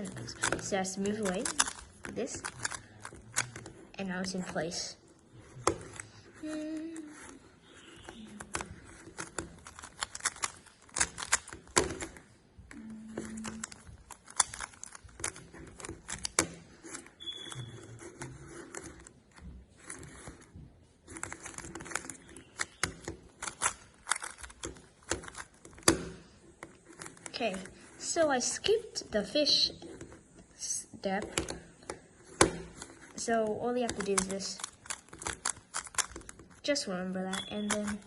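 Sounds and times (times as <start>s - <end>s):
puzzle cube clicking: 0.0s - 12.3s, 13.0s - 19.1s, 21.1s - 38.0s.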